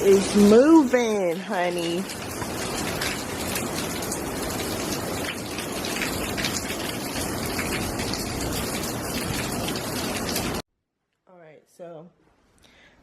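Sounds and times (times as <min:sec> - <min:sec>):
heavy rain pouring: 0:00.0 - 0:10.6.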